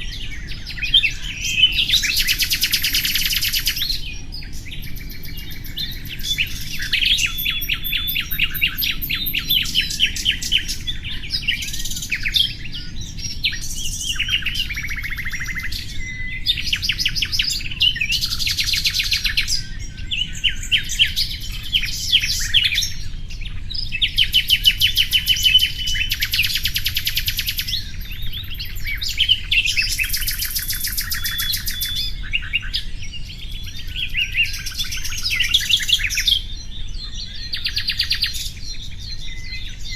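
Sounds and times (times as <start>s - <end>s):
nightingale singing trills: 0.0s - 39.9s.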